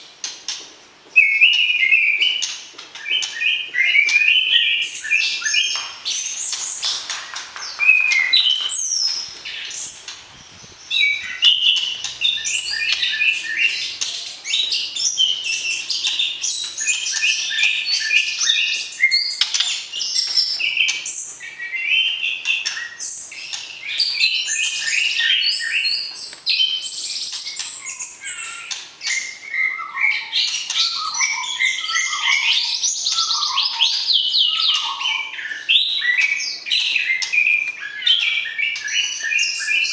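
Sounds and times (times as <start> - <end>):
bird chirps and whistles: 1.2 - 10.1, 10.9 - 39.9.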